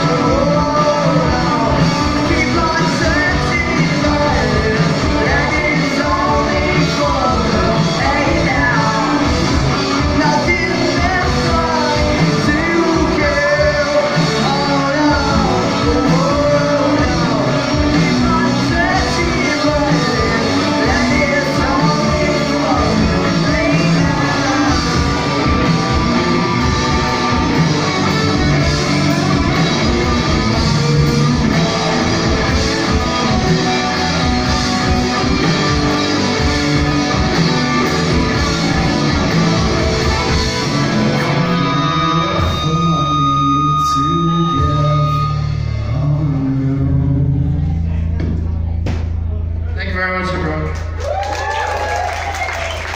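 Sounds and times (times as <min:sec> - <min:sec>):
lead vocalist singing: 0:00.0 - 0:48.4
rock band playing: 0:00.0 - 0:52.9.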